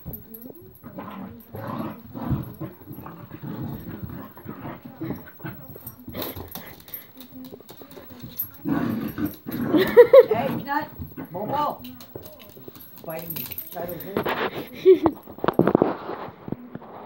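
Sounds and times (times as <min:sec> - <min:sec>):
dogs growling while play-fighting: 0:00.0 - 0:16.3.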